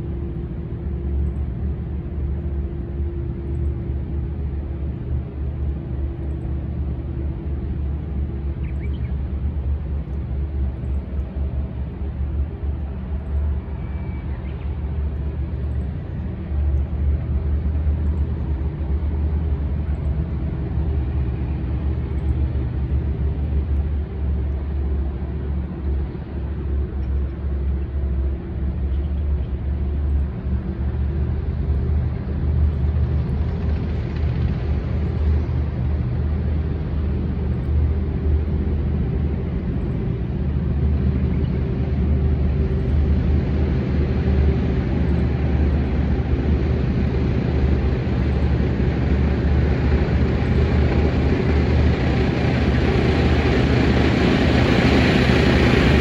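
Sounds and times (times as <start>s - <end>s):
tank engine rumbling: 0.0s - 56.0s.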